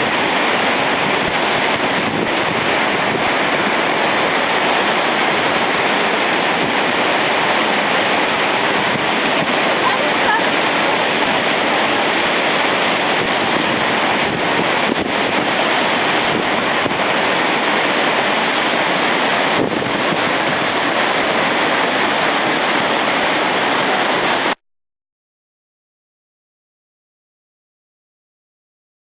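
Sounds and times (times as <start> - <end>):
river water rushing: 0.0 - 24.6.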